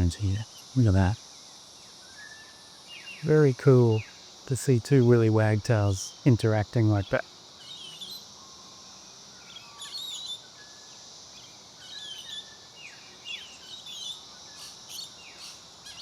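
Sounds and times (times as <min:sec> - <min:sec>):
insects humming: 0:00.0 - 0:16.0.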